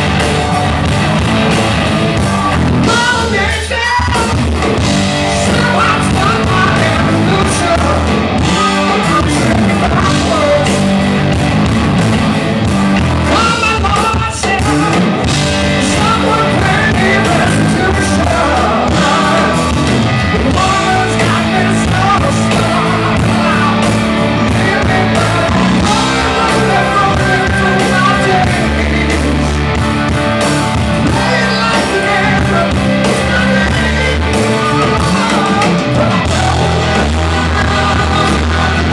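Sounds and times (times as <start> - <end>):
rock band playing live: 0.0 - 38.9
man singing lead: 2.1 - 11.0, 13.2 - 38.9.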